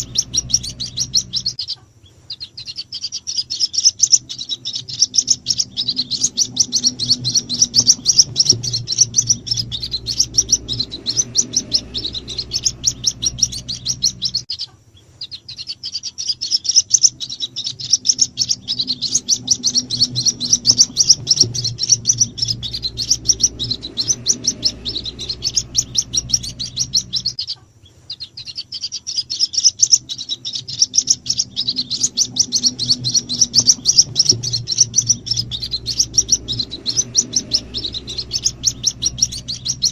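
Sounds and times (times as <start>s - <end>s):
bird chicks peeping: 0.0s - 39.9s.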